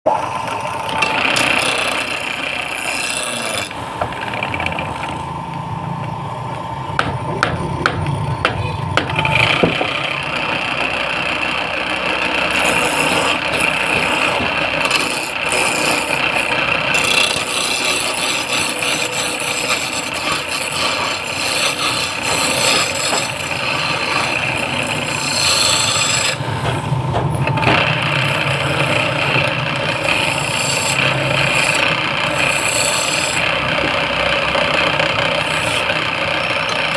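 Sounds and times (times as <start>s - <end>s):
lathe machine whine: 0.1s - 36.9s
turning tool scraping spinning wood: 0.2s - 5.4s, 9.0s - 36.9s.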